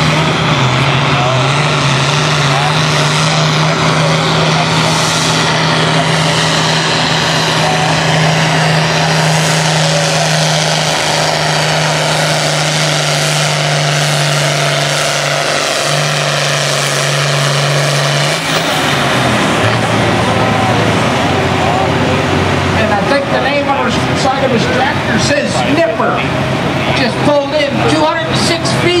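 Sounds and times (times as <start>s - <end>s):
tractor engine at full throttle: 0.0s - 29.0s.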